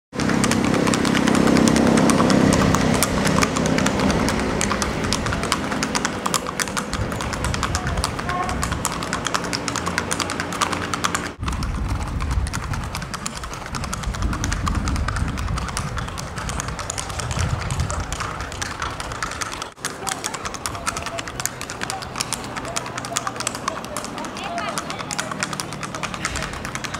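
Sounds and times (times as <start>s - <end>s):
hooves on stone path: 0.2s - 26.9s.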